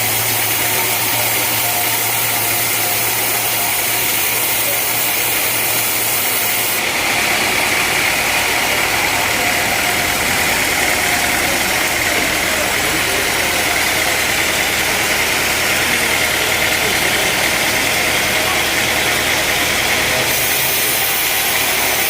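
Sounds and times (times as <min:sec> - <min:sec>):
sawmill saw and engine running: 0:00.0 - 0:22.0.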